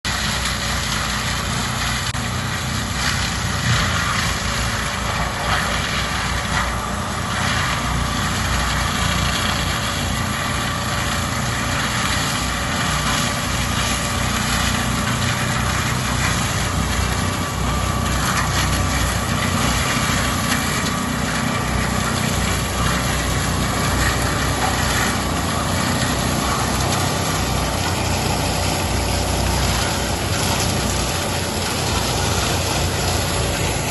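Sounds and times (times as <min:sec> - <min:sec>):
forestry mulcher grinding trees: 0:00.0 - 0:33.9.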